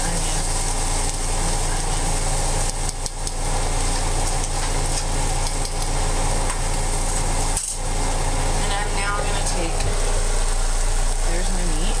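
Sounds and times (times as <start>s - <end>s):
low hum: 0.0s - 12.0s
vegetables sizzling in a skillet: 0.0s - 12.0s.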